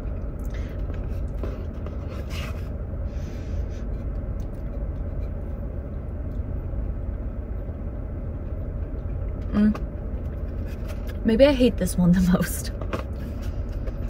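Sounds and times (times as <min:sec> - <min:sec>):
vehicle cabin rumble: 0:00.0 - 0:14.0.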